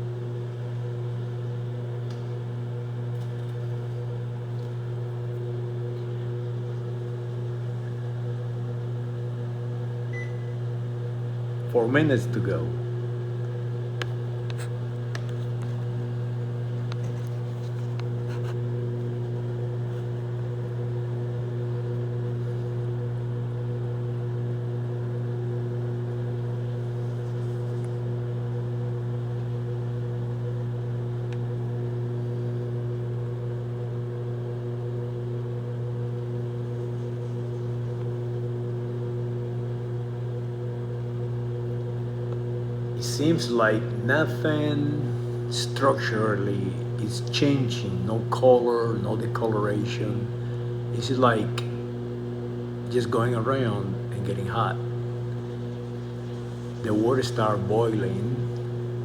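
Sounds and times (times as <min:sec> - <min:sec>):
microwave oven humming: 0:00.0 - 0:59.0.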